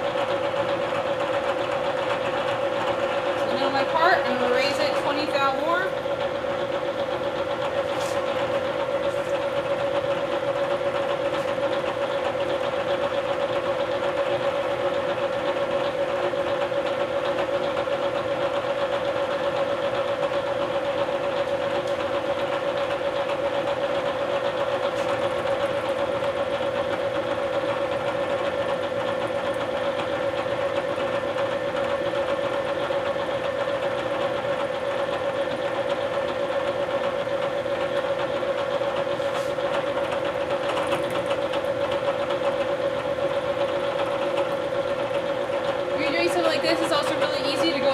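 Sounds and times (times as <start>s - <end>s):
milling machine cutting metal whine: 0.0s - 47.9s.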